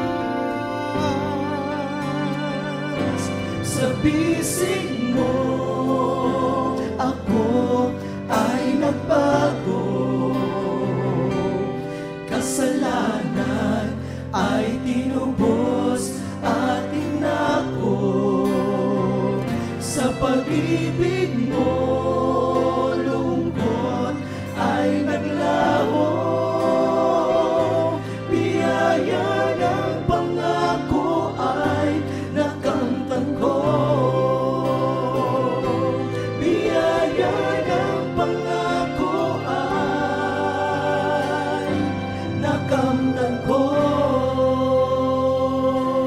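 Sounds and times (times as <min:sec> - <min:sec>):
acoustic guitar: 0:00.0 - 0:46.0
keyboard: 0:00.0 - 0:46.0
male vocal group singing: 0:00.0 - 0:46.0.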